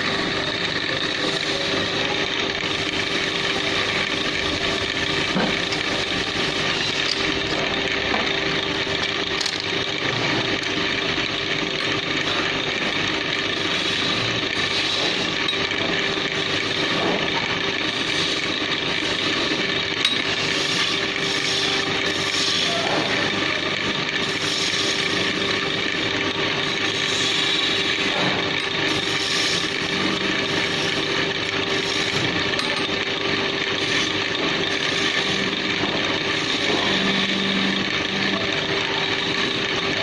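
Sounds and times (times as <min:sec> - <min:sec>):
tool scraping spinning wood: 0:00.0 - 0:40.0
wood lathe motor hum: 0:00.0 - 0:40.0.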